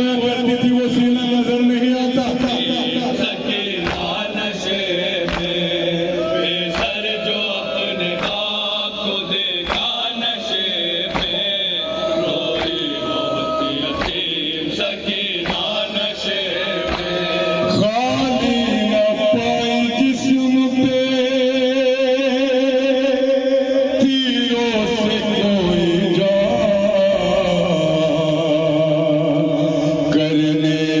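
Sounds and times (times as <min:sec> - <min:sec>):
man chanting a lament: 0:00.0 - 0:31.0.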